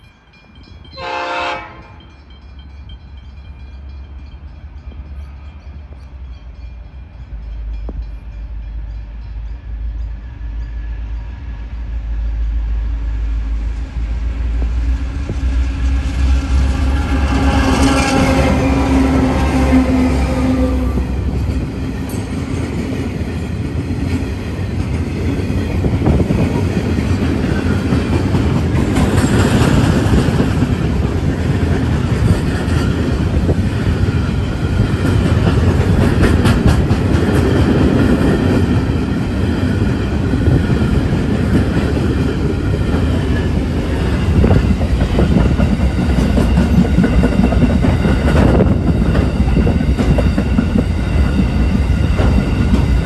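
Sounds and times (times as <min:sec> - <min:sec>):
train running on rails: 0:00.0 - 0:53.0.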